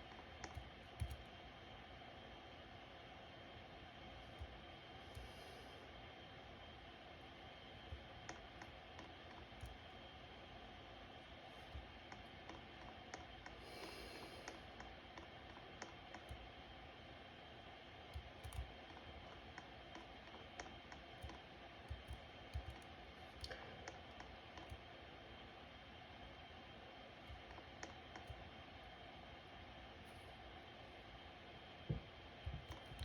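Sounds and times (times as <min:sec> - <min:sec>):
ceiling fan humming: 0:00.0 - 0:33.0.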